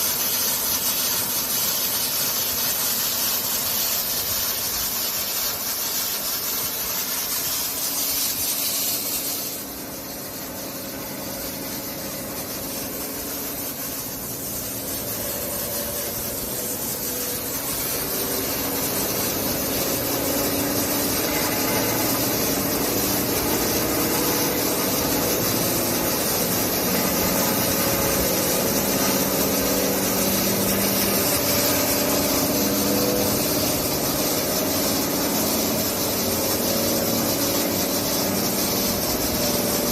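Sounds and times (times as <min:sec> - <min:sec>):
steady hiss: 0:00.0 - 0:39.9
sander machine hum: 0:06.4 - 0:39.9.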